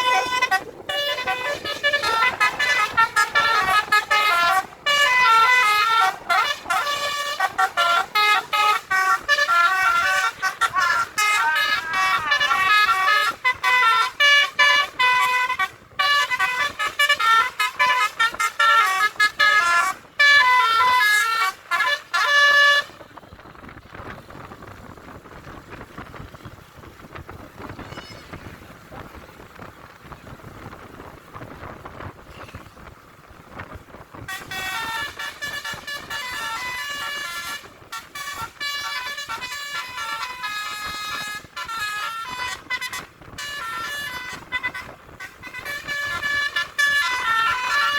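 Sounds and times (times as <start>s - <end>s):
multi-tone bus air horns: 0.0s - 47.9s
road and traffic noise: 0.0s - 47.9s.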